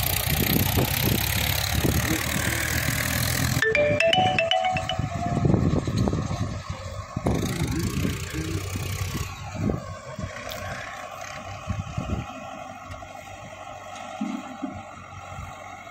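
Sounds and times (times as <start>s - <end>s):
distant diesel engines rumbling: 0.0s - 15.9s.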